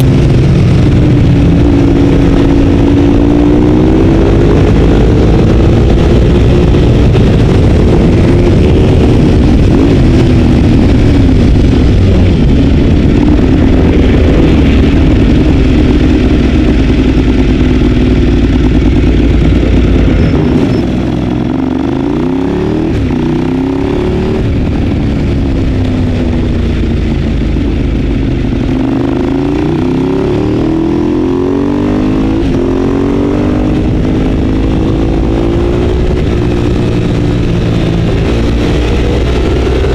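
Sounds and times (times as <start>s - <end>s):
motorcycle engine at racing revs: 0.0s - 39.9s.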